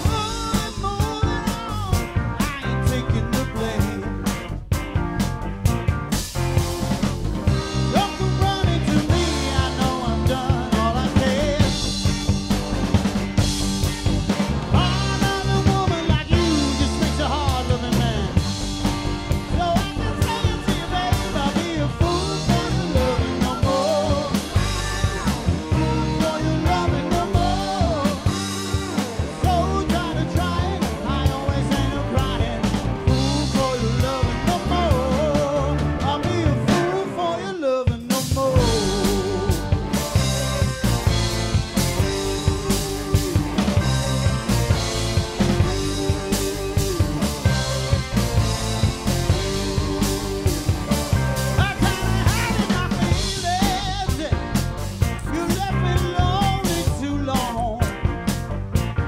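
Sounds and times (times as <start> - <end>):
drum kit beat: 0.0 - 59.0
rock band music: 0.0 - 59.0.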